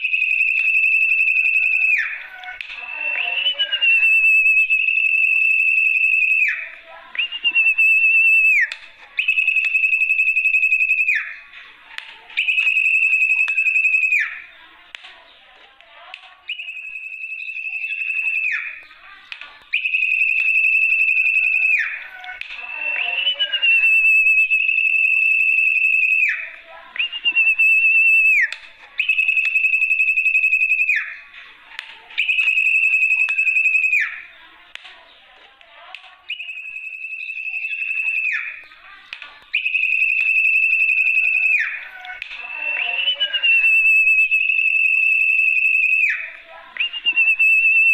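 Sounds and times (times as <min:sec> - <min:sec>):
whistled bird lure call: 0:00.0 - 0:11.5, 0:12.4 - 0:14.5, 0:16.5 - 0:19.0, 0:19.7 - 0:31.2, 0:32.2 - 0:34.3, 0:36.3 - 0:38.8, 0:39.5 - 0:47.9.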